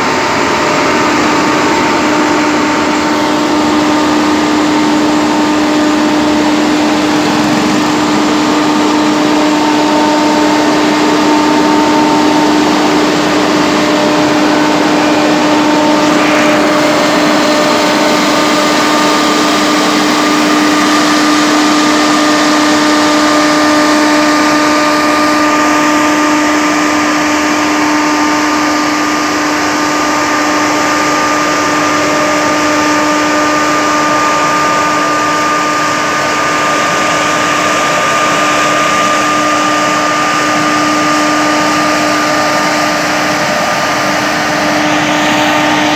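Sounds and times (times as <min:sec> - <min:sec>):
mist-blower sprayer engine droning: 0:00.0 - 0:45.9.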